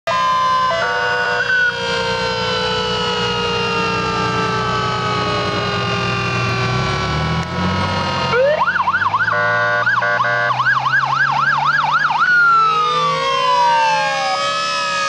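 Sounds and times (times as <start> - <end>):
fire truck siren wailing: 0.0 - 15.0
fire truck engines rumbling: 0.1 - 15.0.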